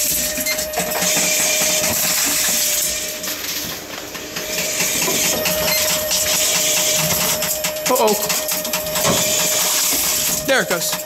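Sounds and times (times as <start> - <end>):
vending machine motor whine: 0.0 - 11.0.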